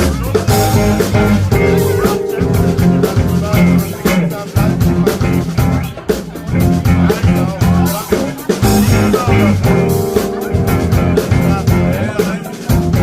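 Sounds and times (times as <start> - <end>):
electric guitar: 0.0 - 7.8, 8.4 - 13.0
drum kit beat: 0.0 - 13.0.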